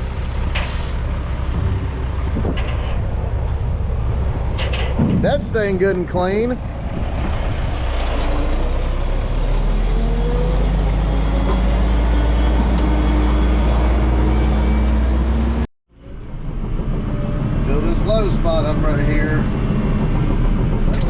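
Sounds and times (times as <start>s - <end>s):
heavy diesel engine droning: 0.0s - 21.0s.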